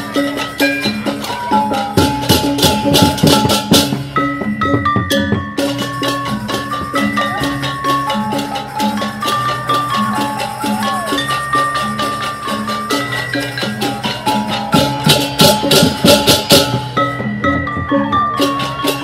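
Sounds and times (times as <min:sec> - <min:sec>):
gamelan kettle gongs ringing: 0:00.0 - 0:19.0.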